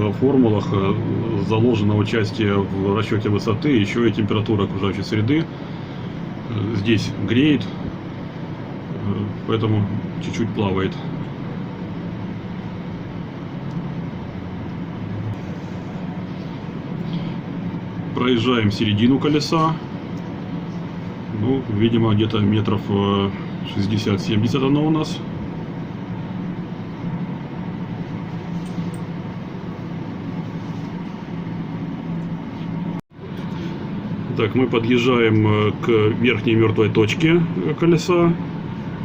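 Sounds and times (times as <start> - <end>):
ventilation blower whoosh and hum: 0.0 - 39.0.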